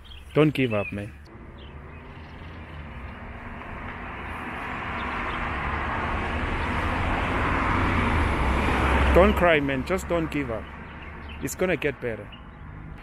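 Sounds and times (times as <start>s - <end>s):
vehicle passing: 1.2s - 13.0s.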